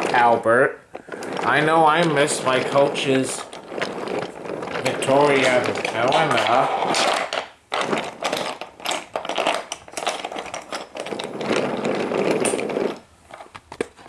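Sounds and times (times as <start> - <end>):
wooden toy train rattling on track: 0.0 - 14.0.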